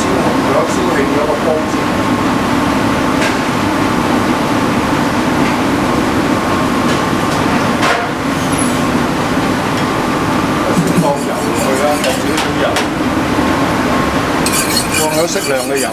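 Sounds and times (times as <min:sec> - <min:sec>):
kitchen extraction fan: 0:00.0 - 0:15.9
gas burner roaring: 0:01.8 - 0:15.9.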